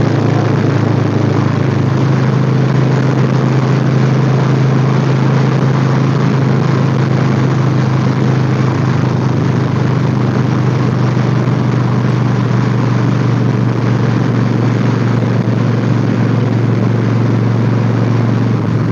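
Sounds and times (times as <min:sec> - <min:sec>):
motorcycle engine cruising: 0:00.0 - 0:18.9
wind noise: 0:00.0 - 0:18.9.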